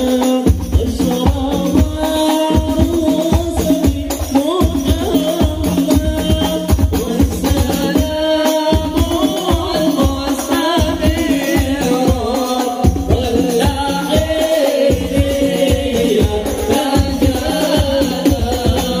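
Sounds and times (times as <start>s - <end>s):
frame drums beating: 0.0s - 19.0s
men chanting through microphones: 0.0s - 19.0s.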